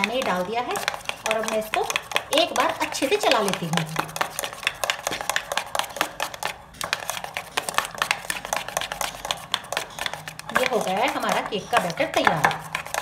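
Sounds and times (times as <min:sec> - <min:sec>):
spoon beating batter in metal bowl: 0:00.0 - 0:13.0.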